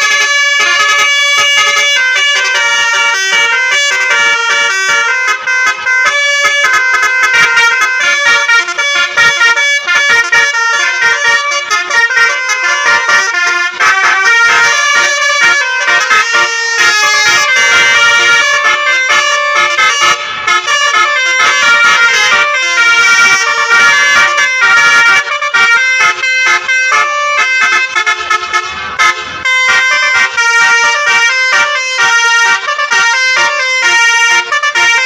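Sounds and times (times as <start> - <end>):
musical bus horns playing melodies: 0.0 - 35.0.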